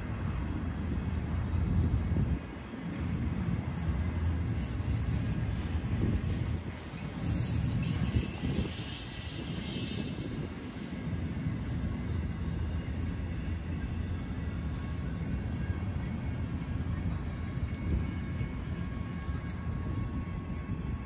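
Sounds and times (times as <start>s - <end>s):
high-pitched hiss: 0.0s - 20.9s
freight train rumbling past: 0.0s - 21.0s.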